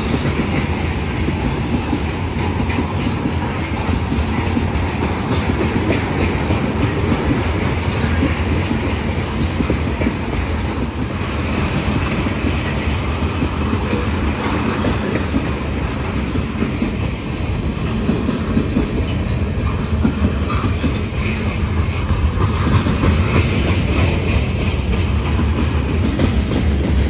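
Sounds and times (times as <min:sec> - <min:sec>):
low rumble of train: 0:00.0 - 0:27.0
train wheels clacking on rails: 0:00.0 - 0:27.0.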